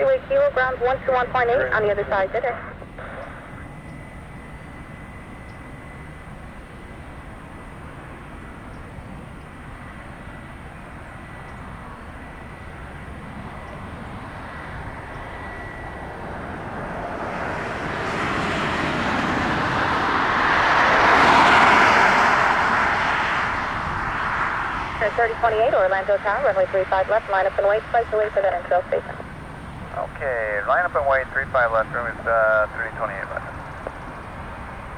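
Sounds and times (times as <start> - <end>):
jet engines roaring past: 0.0 - 34.9.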